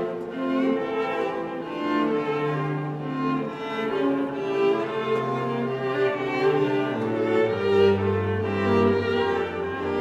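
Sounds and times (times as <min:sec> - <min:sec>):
violin and cello playing slowly: 0:00.0 - 0:10.0.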